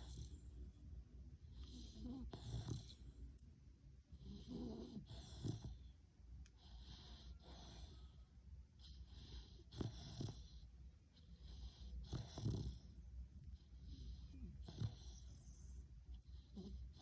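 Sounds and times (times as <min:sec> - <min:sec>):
dog snoring: 0:00.0 - 0:00.6, 0:01.4 - 0:03.2, 0:04.1 - 0:06.0, 0:06.6 - 0:08.2, 0:08.8 - 0:17.0.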